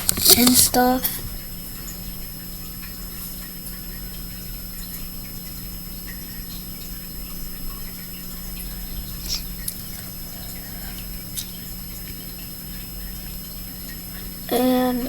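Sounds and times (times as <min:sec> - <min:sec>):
drip-like ticks: 0:00.0 - 0:14.5
steady low hum: 0:00.0 - 0:15.0.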